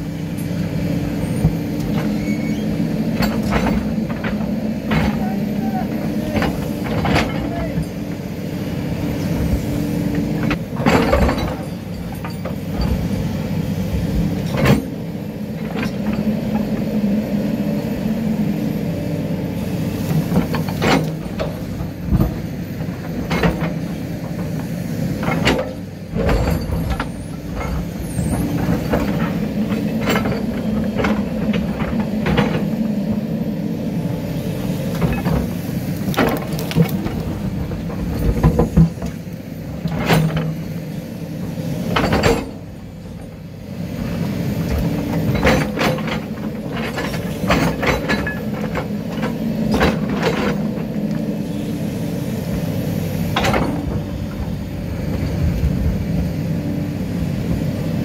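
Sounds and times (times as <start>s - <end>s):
excavator diesel engine working: 0.0s - 58.0s.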